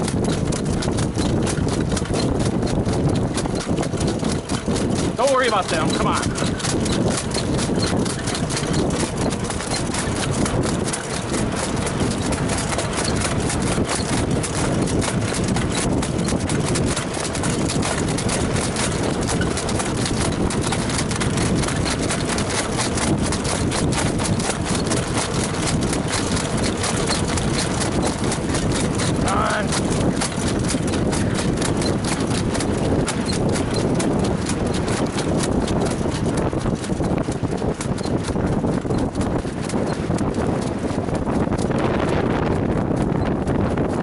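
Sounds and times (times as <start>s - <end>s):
horse hoofbeats trotting: 0.0s - 44.0s
steady rushing noise: 0.0s - 44.0s.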